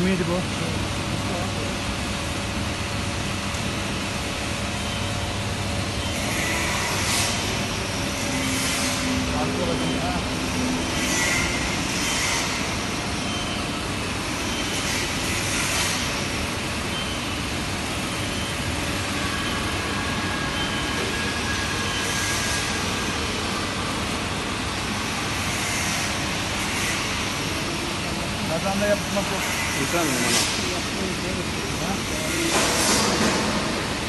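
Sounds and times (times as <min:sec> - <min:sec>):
roaster drum and fan whirring: 0:00.0 - 0:34.0.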